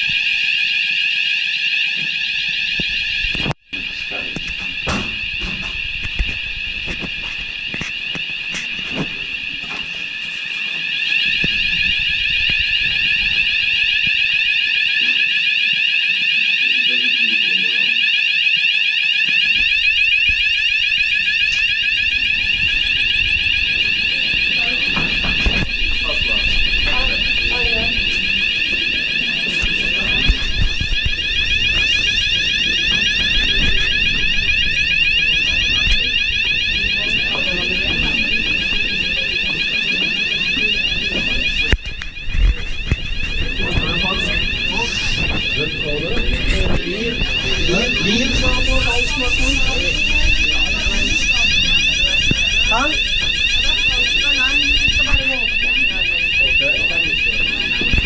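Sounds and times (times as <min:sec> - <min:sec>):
fire alarm warbling tone: 0:00.0 - 0:58.0.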